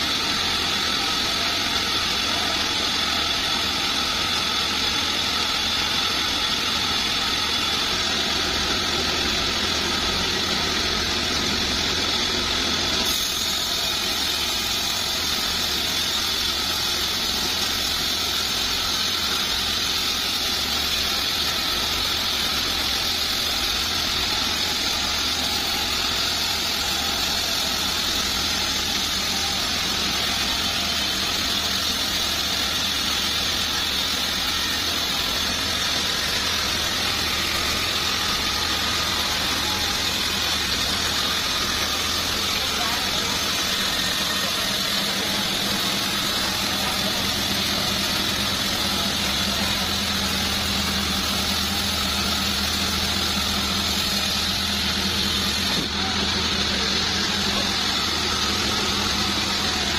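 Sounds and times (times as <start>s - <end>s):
band sawmill droning and hissing: 0.0s - 59.9s.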